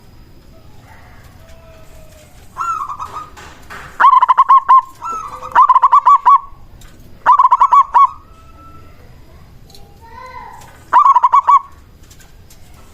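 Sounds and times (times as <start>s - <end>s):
dove cooing: 0.5s - 9.5s, 10.6s - 12.9s.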